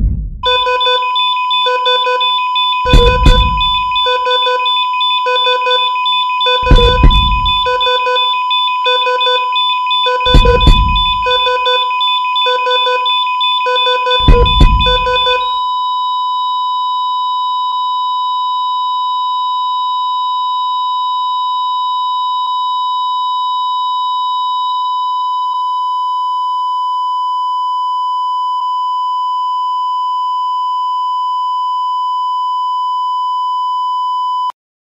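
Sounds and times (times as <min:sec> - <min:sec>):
heart monitor flatline beep: 0:00.4 - 0:34.5.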